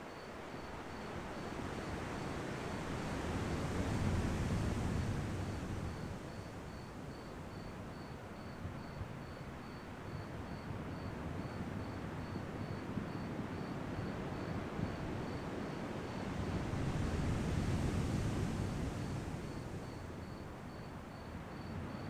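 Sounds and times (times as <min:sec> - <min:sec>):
cricket chirping: 0:00.0 - 0:22.0
ocean waves washing ashore: 0:00.3 - 0:10.1, 0:10.7 - 0:21.9.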